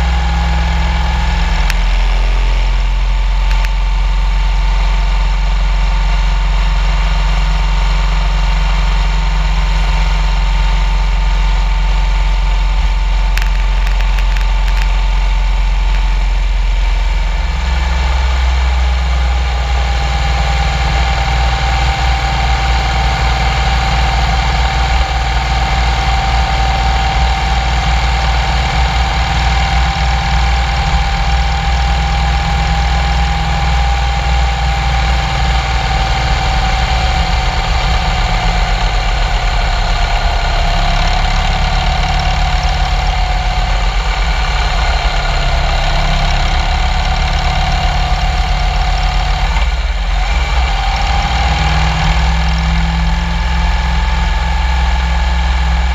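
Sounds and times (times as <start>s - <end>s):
motorcycle engine hum: 0.0s - 55.9s
road rumble: 0.0s - 55.9s.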